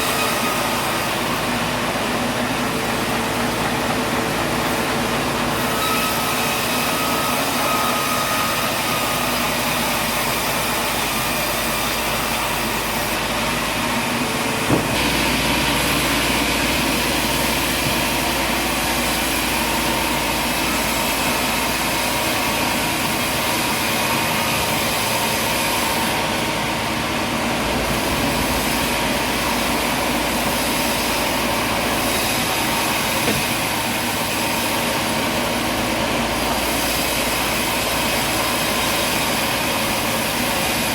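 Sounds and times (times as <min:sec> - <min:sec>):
machinery droning: 0:00.0 - 0:40.9.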